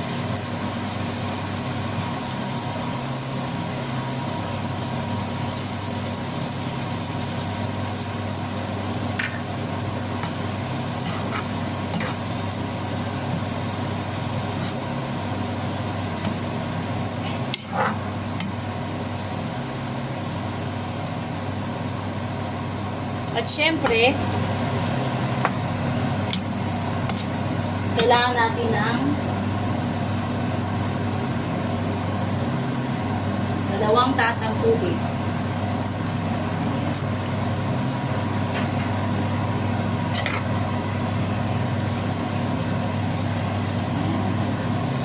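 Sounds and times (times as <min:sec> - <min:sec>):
low mechanical hum: 0:00.0 - 0:45.0
meat sizzling in a frying pan: 0:00.0 - 0:45.0.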